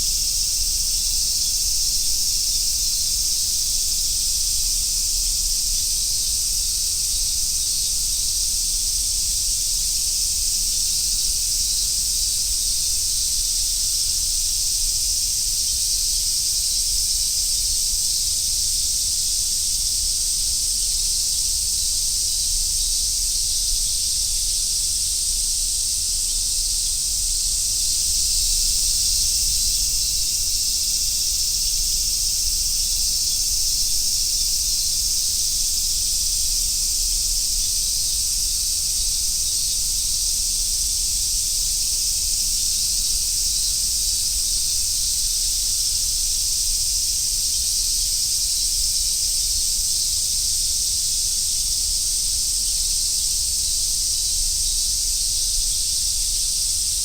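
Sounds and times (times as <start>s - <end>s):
cicadas chorus: 0.0s - 57.0s.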